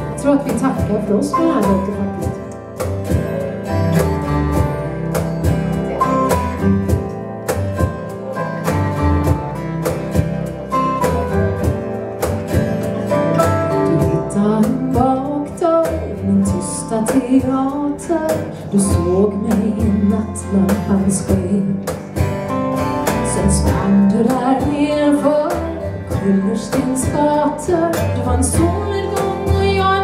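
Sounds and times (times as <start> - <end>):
plucked double bass: 0.0 - 30.0
strummed acoustic guitars: 0.0 - 30.0.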